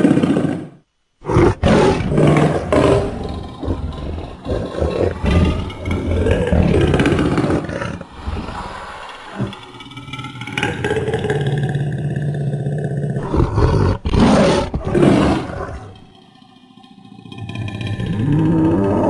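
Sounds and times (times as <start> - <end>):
loud rasping monster roars: 0.0 - 16.0, 17.2 - 19.0
monster growling: 0.0 - 16.2, 17.0 - 19.0.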